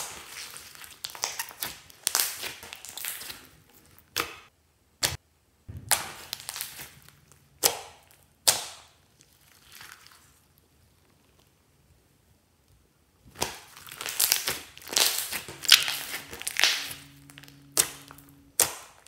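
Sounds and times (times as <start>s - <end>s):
slime popping and squelching: 0.0s - 10.4s, 13.3s - 19.0s.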